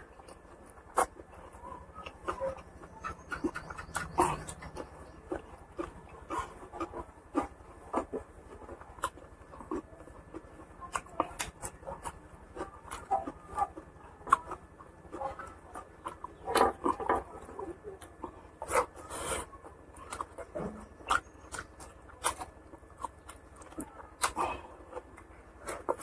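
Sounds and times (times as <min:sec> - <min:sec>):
wet chewing and mouth smacks: 0:00.0 - 0:26.0.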